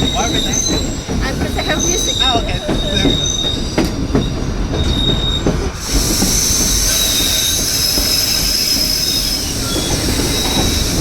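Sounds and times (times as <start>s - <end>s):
train cars rumbling on rails: 0.0s - 11.0s
train wheels squealing: 0.0s - 11.0s.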